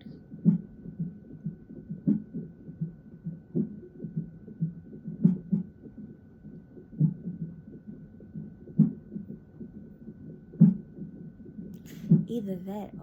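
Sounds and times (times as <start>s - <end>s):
fast fetal heartbeat from speaker: 0.3s - 12.9s.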